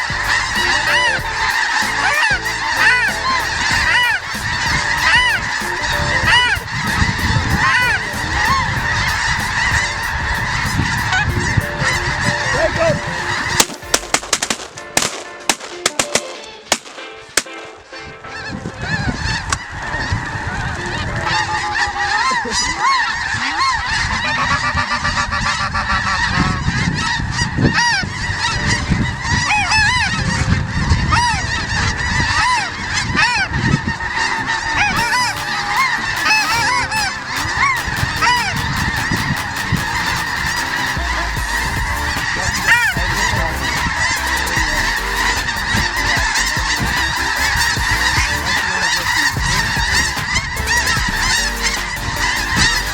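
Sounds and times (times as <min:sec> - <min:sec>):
flock of geese honking: 0:00.0 - 0:52.9.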